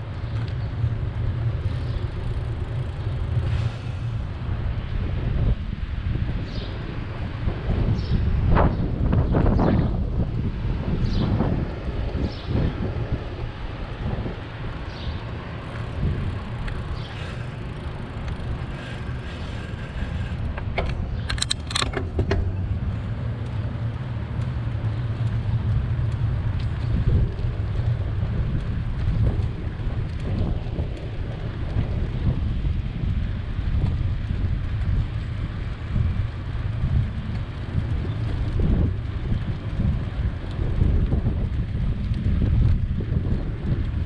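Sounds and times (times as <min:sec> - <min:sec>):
road traffic: 0:00.0 - 0:44.0
wind on microphone: 0:00.0 - 0:44.0.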